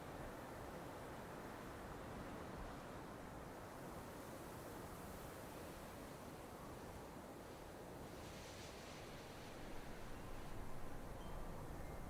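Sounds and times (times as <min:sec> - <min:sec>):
faint rushing snowstorm wind: 0:01.0 - 0:12.0.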